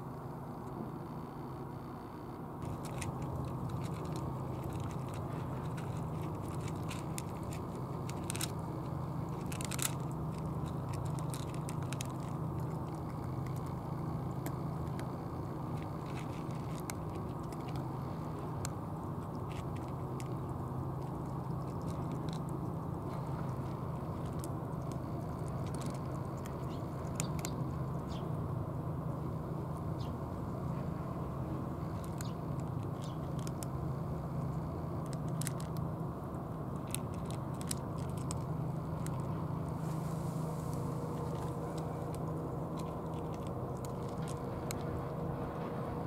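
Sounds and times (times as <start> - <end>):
low background rumble: 0.0 - 46.0
cats crunching dry kibble: 2.6 - 46.0.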